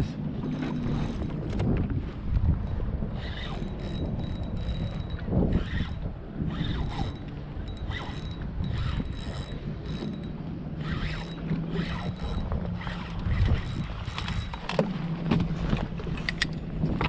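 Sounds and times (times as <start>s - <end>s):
fishing reel clicking and whirring: 0.0s - 1.8s, 2.4s - 14.9s
wind rumble: 0.0s - 17.0s.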